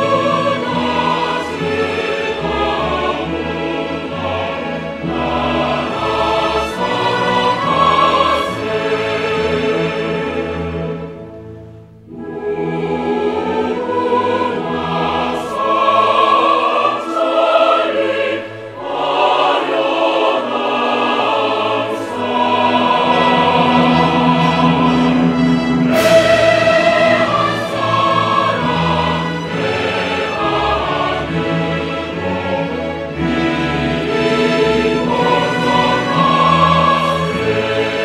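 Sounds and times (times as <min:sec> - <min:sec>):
choir singing long held notes: 0:00.0 - 0:38.0.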